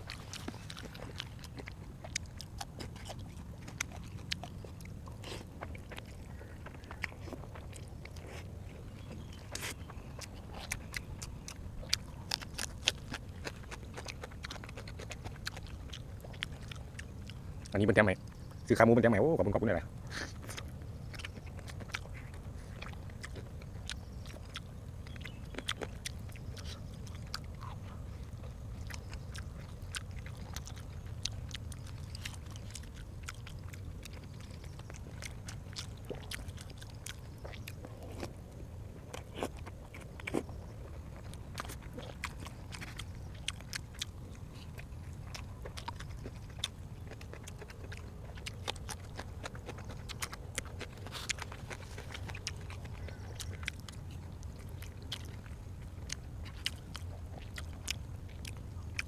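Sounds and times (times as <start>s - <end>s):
person chewing: 0.0s - 18.6s, 20.0s - 59.0s
steady low hum: 0.0s - 59.0s.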